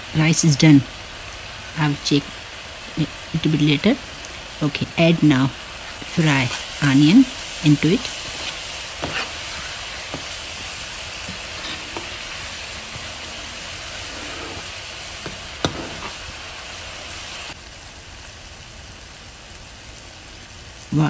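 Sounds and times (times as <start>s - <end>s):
chutney sizzling in frying pan: 0.0s - 21.0s.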